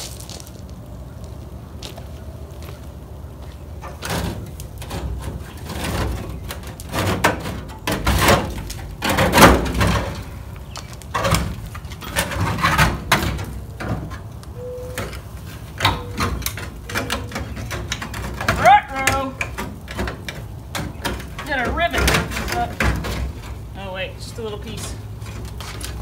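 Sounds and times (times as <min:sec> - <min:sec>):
sheet metal scraping and creaking: 0:03.8 - 0:26.0.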